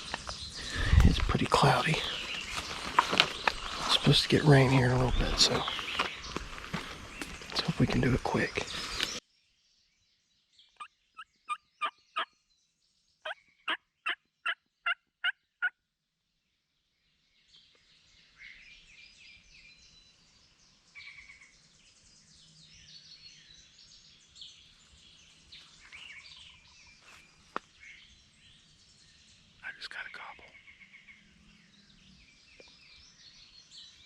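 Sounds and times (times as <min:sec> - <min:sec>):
songbirds: 0:00.0 - 0:34.0.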